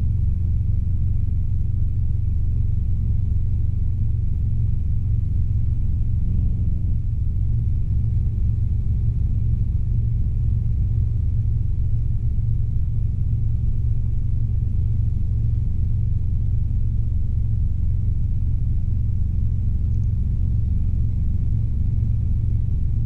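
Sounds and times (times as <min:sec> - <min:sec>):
helicopter rumble from inside cabin: 0:03.1 - 0:23.0.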